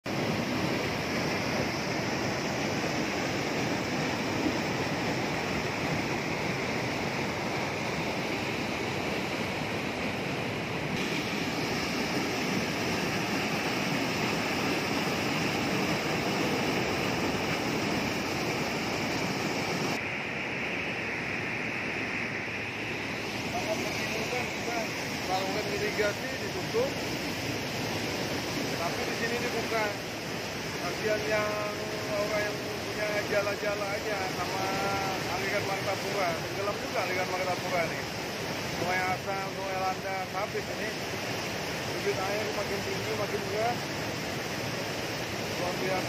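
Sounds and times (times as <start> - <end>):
floodwater rushing over weir: 0.1 - 46.0.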